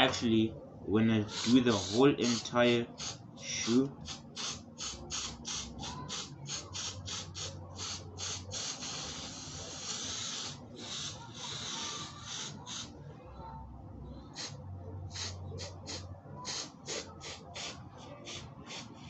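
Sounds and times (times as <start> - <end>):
aerosol spray hissing: 1.3 - 12.9, 14.4 - 19.0.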